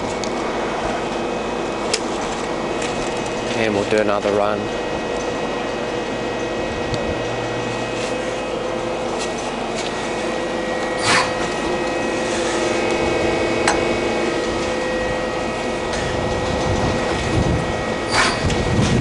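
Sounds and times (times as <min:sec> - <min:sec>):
lathe machine humming: 0:00.0 - 0:19.0.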